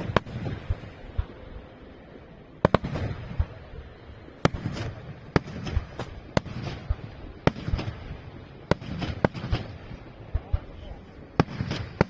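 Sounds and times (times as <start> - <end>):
echoing rumble and crackle: 0.0 - 12.0
fireworks bursting with bangs: 0.0 - 12.0.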